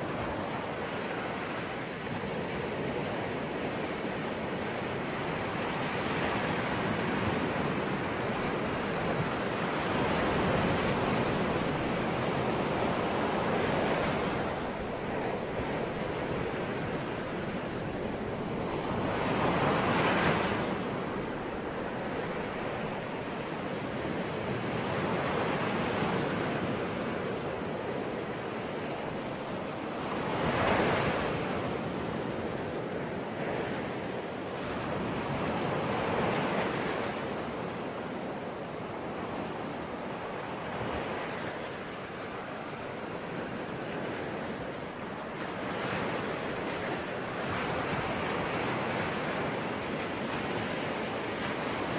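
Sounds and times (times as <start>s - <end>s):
sea waves breaking: 0.0s - 51.9s
wind: 0.0s - 51.9s.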